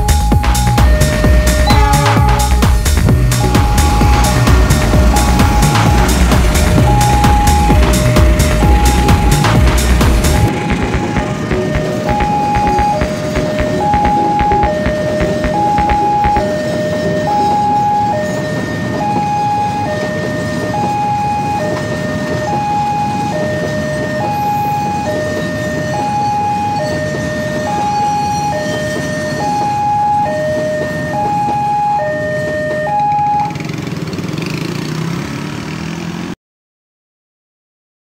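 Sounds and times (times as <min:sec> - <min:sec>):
two-tone level-crossing alarm: 0:00.0 - 0:33.8
freight train rumble: 0:00.0 - 0:35.4.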